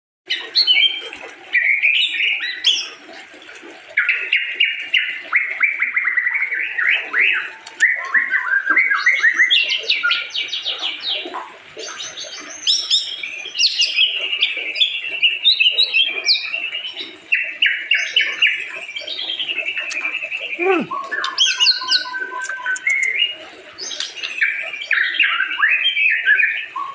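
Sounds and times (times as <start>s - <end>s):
bird singing chirping phrases: 4.0s - 26.9s.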